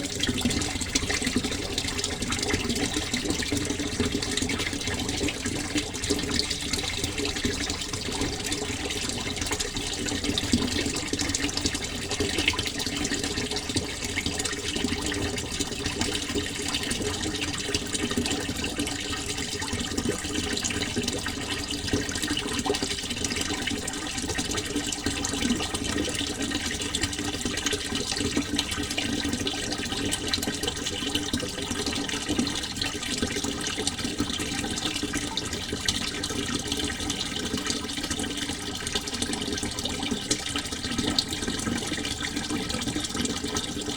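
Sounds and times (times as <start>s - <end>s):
water flowing: 0.0s - 43.9s.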